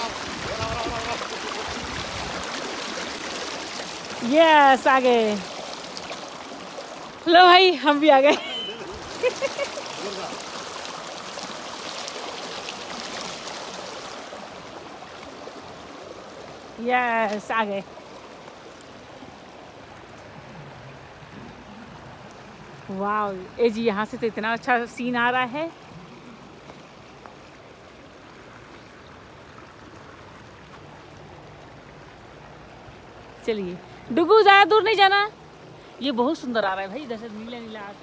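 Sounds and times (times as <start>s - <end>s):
river water flowing over stones: 0.0s - 38.0s.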